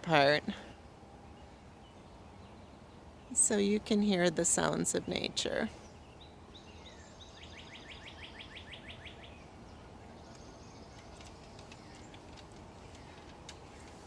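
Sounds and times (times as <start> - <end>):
low outdoor background hum: 0.0 - 14.0
songbird trill: 0.0 - 14.0.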